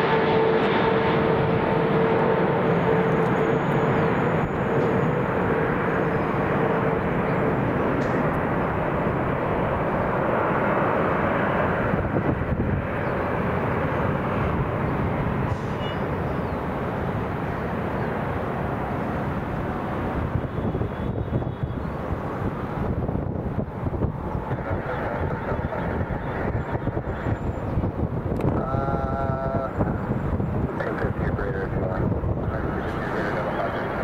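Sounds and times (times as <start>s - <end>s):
jet engine roar: 0.0s - 34.0s
jet engine whine: 0.0s - 34.0s.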